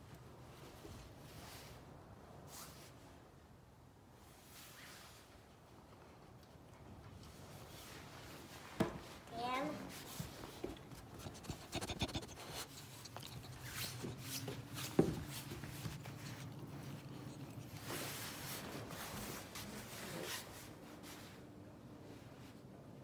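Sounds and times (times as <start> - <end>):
faint low hum: 0.0 - 23.0
rustling handling noises: 4.3 - 22.7.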